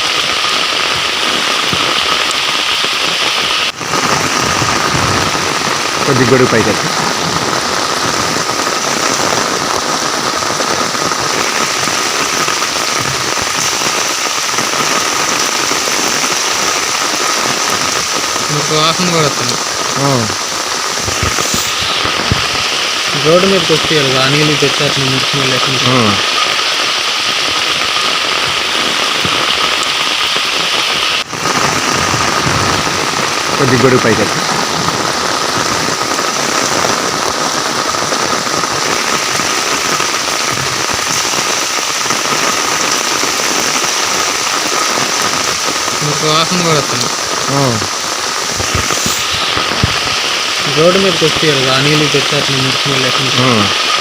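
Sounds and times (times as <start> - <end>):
steady rain: 0.0 - 54.0
water hissing: 0.0 - 54.0.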